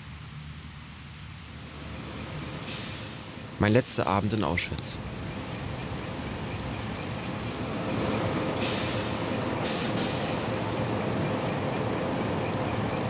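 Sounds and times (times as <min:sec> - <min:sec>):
buses idling: 0:00.0 - 0:13.0.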